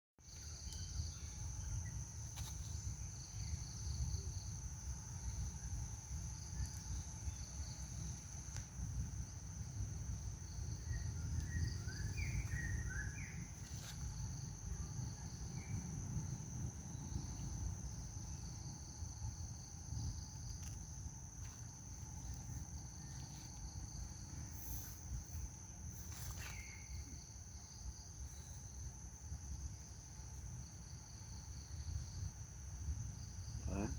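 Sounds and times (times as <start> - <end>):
insects droning: 0.2 - 33.9.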